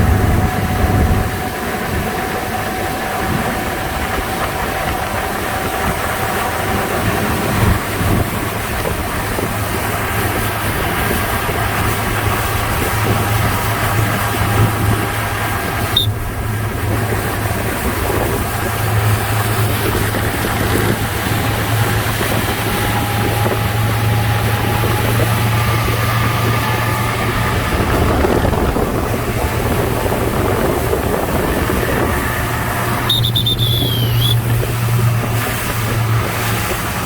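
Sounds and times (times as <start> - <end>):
motorboat engine humming: 0.0 - 37.0
rushing water: 0.0 - 37.0
wind buffeting microphone: 0.0 - 37.0.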